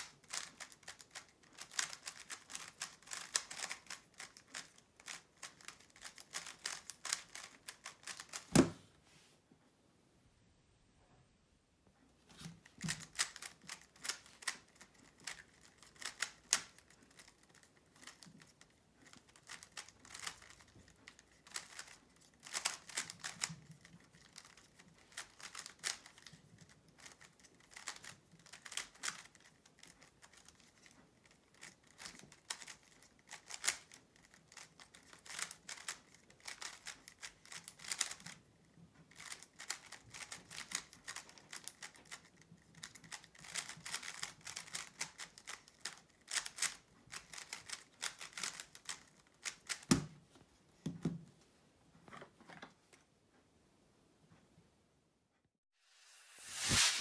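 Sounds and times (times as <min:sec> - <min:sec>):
puzzle cube plastic clicking: 0:00.0 - 0:08.5, 0:12.6 - 0:50.1.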